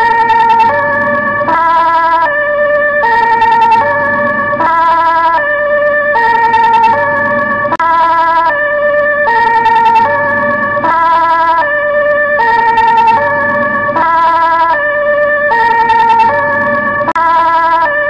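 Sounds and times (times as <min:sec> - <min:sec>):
two-tone ambulance siren: 0:00.0 - 0:18.0.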